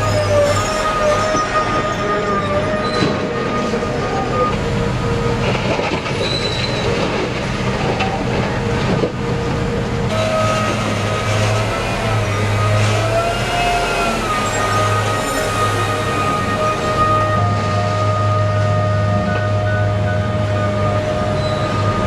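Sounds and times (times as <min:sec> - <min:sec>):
crawler tracks squealing and clanking: 0:00.0 - 0:22.0.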